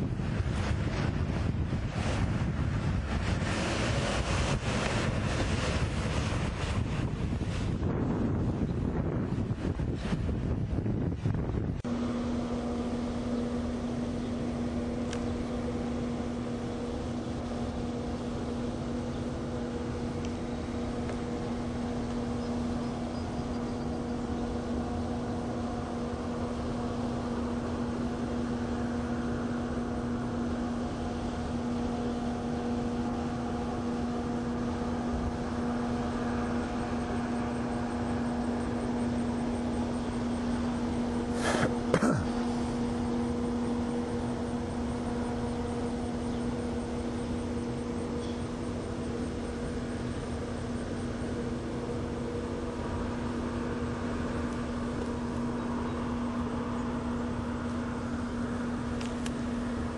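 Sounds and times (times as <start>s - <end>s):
constant rushing noise: 0.0s - 59.9s
steady mechanical hum: 0.0s - 59.9s.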